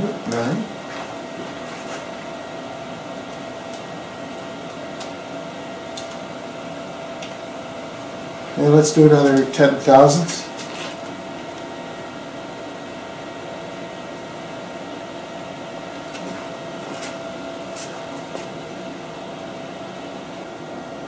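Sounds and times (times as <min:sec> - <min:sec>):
machine hum with high whine: 0:00.0 - 0:21.0.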